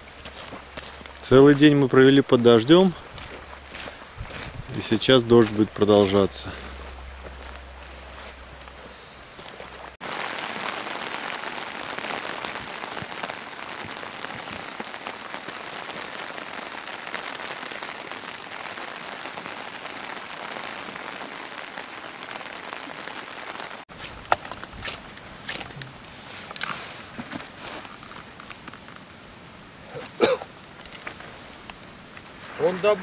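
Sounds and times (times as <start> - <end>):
rain pattering on a tent: 0.0 - 33.0.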